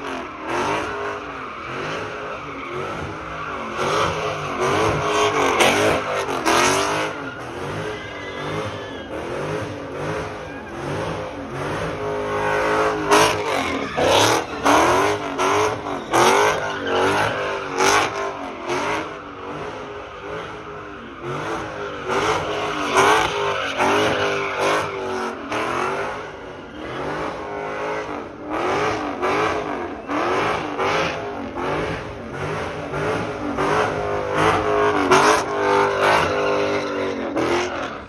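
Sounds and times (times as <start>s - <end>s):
car engine revving hard: 0.0s - 38.0s
tyres spinning on pavement: 0.0s - 38.0s.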